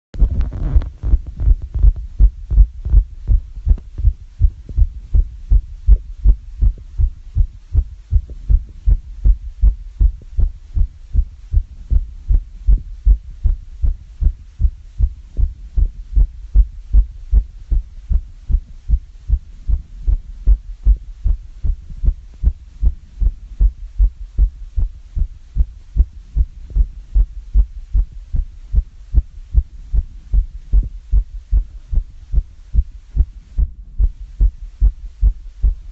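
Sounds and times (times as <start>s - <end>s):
fast heartbeat thumps: 0.2s - 35.9s.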